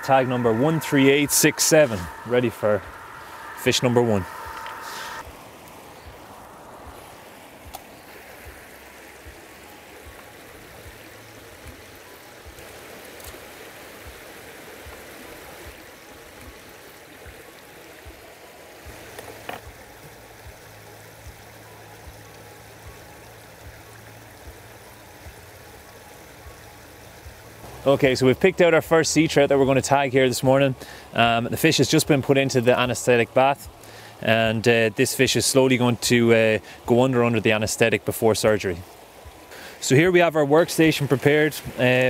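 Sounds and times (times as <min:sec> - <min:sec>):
river water rushing: 0:00.0 - 0:29.0, 0:36.2 - 0:42.0.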